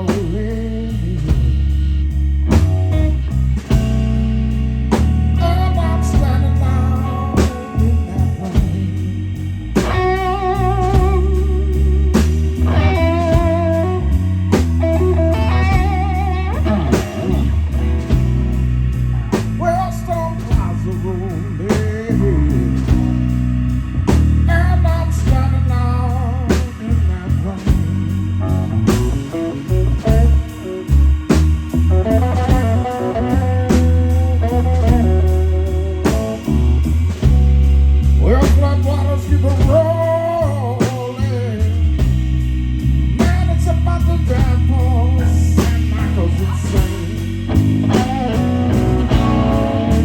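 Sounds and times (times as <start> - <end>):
bass guitar: 0.0 - 50.0
drums: 0.0 - 50.0
electric guitar lead with bent notes: 0.0 - 50.0.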